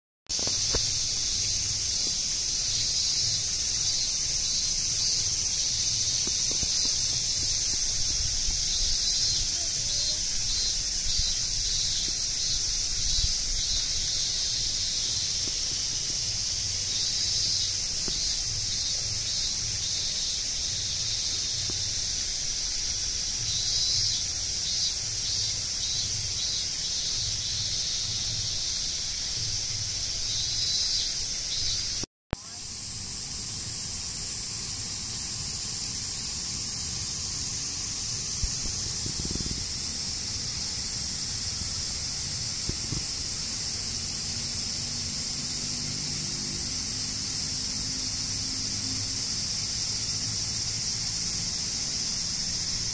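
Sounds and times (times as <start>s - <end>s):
insects chirping: 0.3s - 52.9s.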